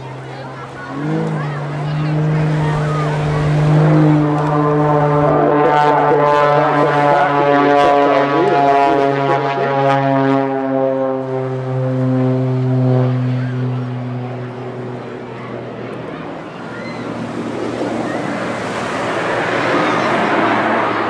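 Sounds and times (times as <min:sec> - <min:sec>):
biplane engine drone: 0:00.0 - 0:21.0.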